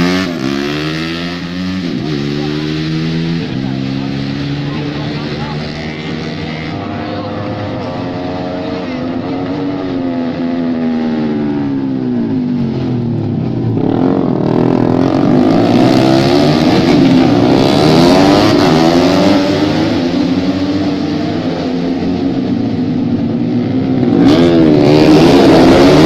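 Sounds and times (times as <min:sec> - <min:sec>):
racing motorcycles revving: 0:00.0 - 0:26.0.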